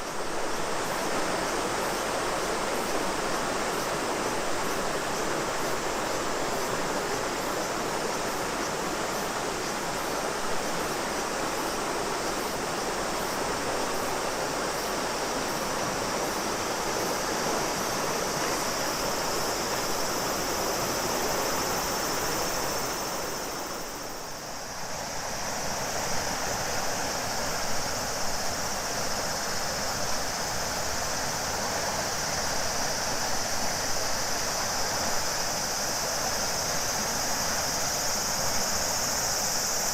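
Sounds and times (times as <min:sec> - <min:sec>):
cicadas droning: 0:00.0 - 0:39.9
river water rushing: 0:00.0 - 0:39.9.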